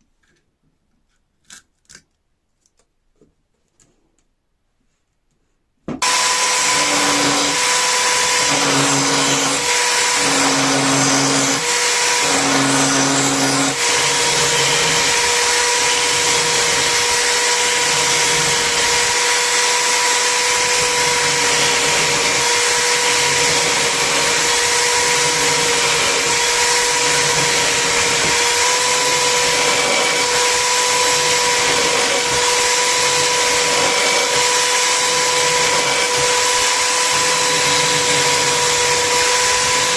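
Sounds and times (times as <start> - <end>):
power tool motor whining: 6.0 - 39.9.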